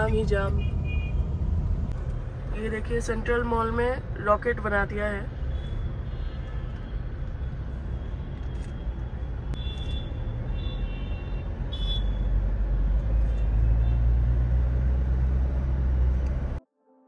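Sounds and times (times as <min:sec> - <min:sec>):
low rumble of traffic engines: 0:00.0 - 0:16.6.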